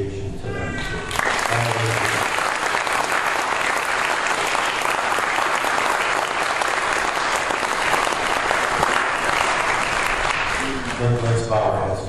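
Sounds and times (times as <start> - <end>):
congregation applauding: 1.1 - 11.8.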